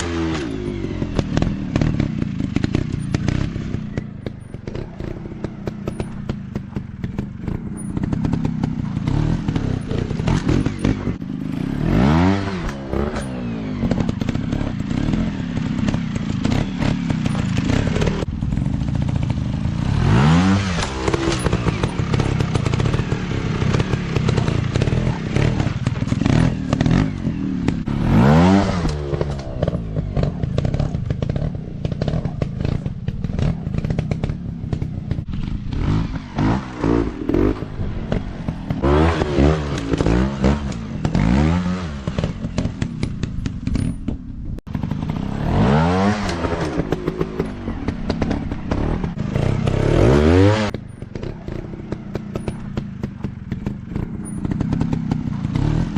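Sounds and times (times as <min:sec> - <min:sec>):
dirt bike engines revving: 0:00.0 - 0:55.9
rattling and scraping: 0:00.0 - 0:55.9.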